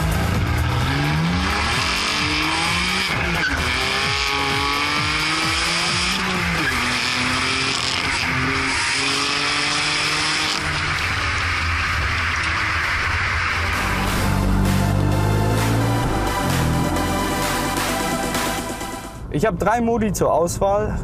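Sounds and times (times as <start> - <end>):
car engine accelerating hard: 0.0 - 18.7.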